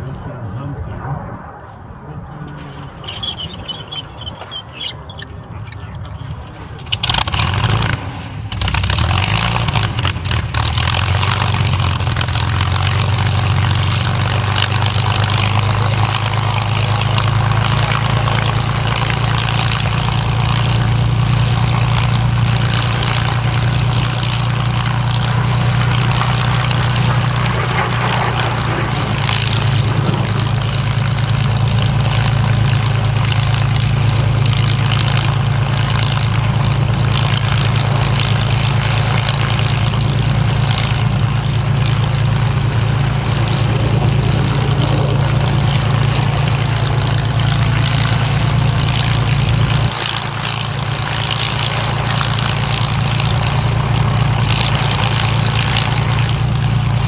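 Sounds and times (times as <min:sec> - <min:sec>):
aircraft engine starting and idling: 0:00.0 - 0:57.0.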